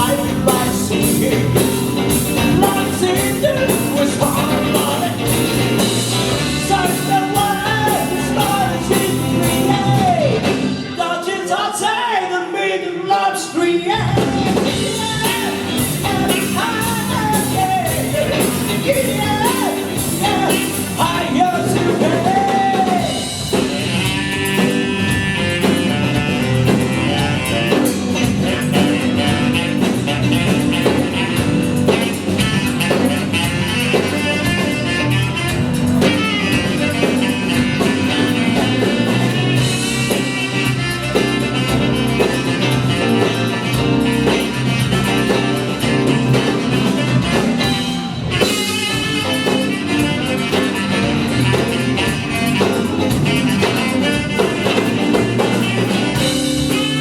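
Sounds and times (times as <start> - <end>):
live band playing soul-blues: 0.0 - 11.6, 13.9 - 57.0.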